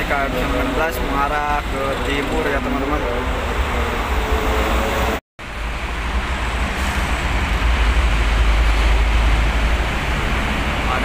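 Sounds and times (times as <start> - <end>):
heavy traffic rumble: 0.0 - 11.0.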